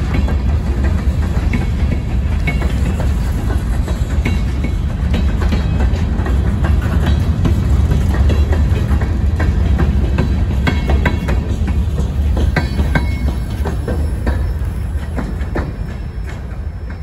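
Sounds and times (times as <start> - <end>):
freight train rumble: 0.0 - 17.0
wheels clicking on rails: 0.0 - 17.0.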